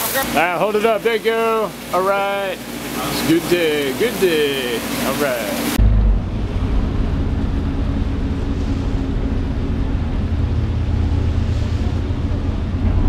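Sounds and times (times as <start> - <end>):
boat engines droning: 0.0 - 13.0
propellers churning water: 0.0 - 13.0.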